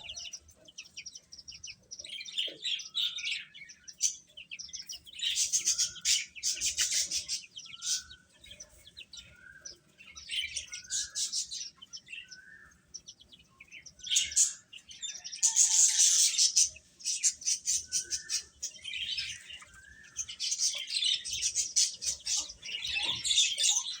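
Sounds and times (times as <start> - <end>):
baby chicks peeping: 0.0 - 24.0.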